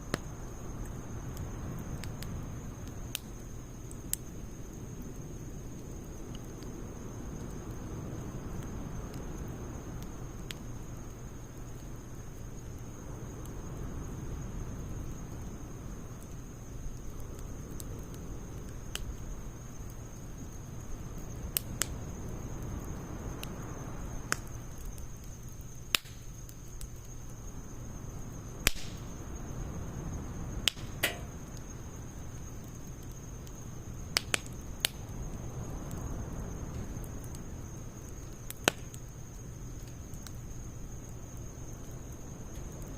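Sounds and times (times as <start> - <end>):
campfire crackling and popping: 0.0 - 42.9
low rush of flames: 0.0 - 42.9.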